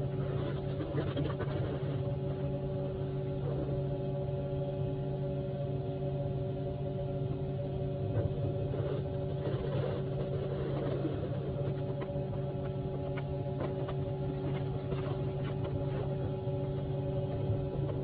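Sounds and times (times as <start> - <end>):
truck engine and vacuum pump drone: 0.0 - 18.0.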